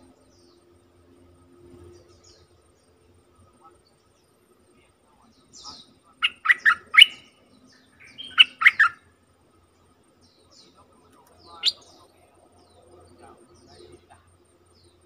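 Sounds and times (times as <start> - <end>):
bulbul singing chirps: 0.0 - 15.0.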